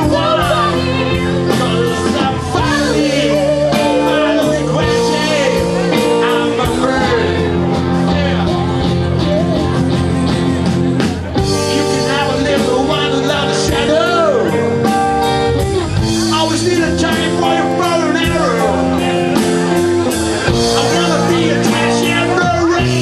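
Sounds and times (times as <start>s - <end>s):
guitar: 0.0s - 23.0s
rock band playing live: 0.0s - 23.0s.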